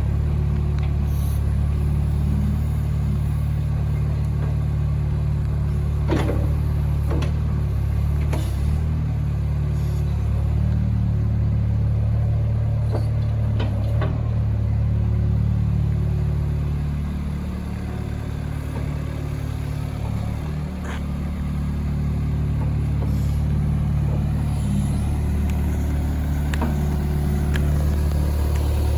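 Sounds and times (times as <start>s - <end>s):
diesel excavator engine running: 0.0s - 28.9s.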